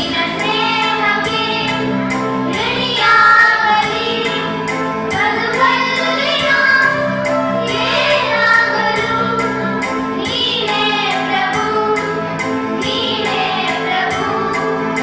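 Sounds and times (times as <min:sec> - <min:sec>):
children singing into microphone: 0:00.0 - 0:15.0
instrumental accompaniment with beat: 0:00.0 - 0:15.0.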